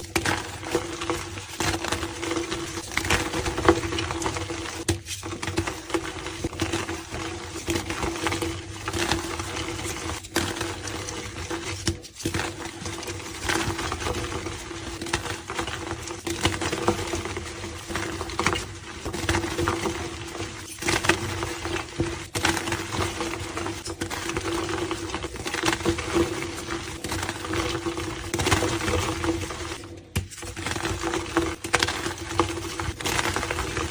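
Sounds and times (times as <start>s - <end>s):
chalk blocks crumbling: 0.0s - 33.9s.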